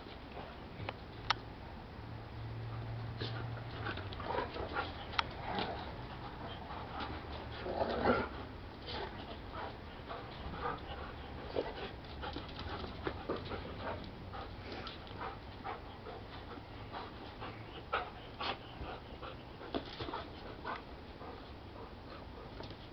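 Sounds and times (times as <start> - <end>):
dogs panting: 2.6 - 22.9
dogs wrestling: 2.6 - 22.9.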